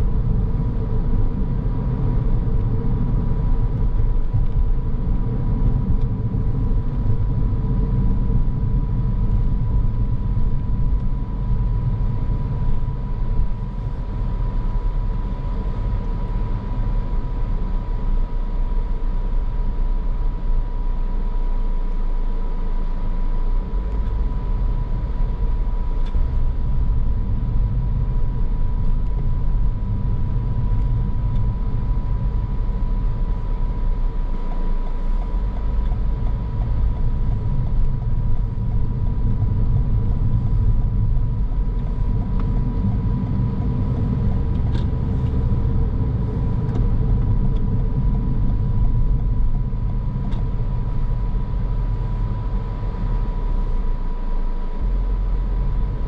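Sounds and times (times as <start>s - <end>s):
car tyres and engine rumble: 0.0s - 56.0s
thin steady whine: 0.0s - 56.0s.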